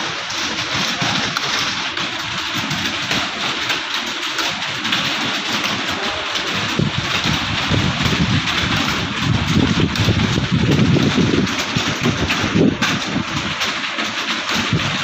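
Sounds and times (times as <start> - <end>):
keyboards clattering: 0.0 - 15.0.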